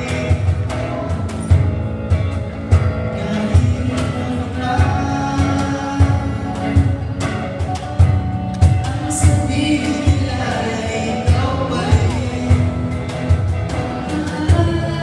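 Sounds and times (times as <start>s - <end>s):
live pop band with singers: 0.0s - 15.0s
steady drum beat: 0.0s - 15.0s.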